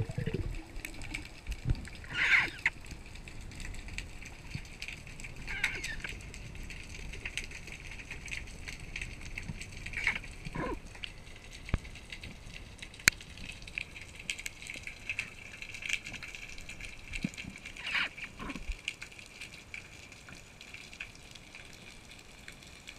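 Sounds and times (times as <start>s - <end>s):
sharp underwater clicks: 0.0s - 19.1s
underwater crackling and fizzing: 0.0s - 22.9s
water gurgle: 0.0s - 22.9s.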